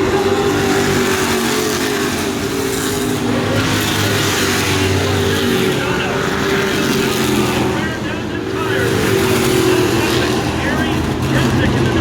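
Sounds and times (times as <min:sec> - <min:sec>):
racing truck engines at speed: 0:00.0 - 0:12.0.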